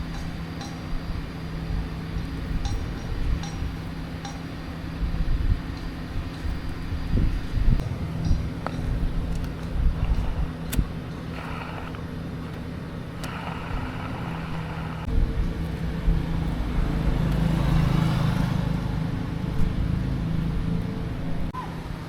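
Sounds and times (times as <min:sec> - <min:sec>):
motor running with low hum: 0:00.0 - 0:21.5.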